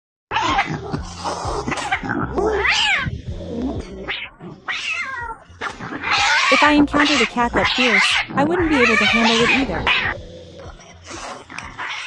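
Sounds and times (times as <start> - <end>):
cat yowling and hissing: 0.3 - 10.2, 11.0 - 12.0.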